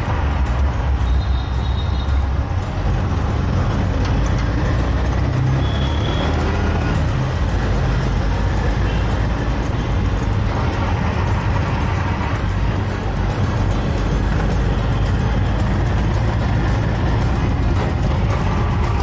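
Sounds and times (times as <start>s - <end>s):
auto-rickshaw engine running: 0.0s - 19.0s
road traffic: 0.0s - 19.0s.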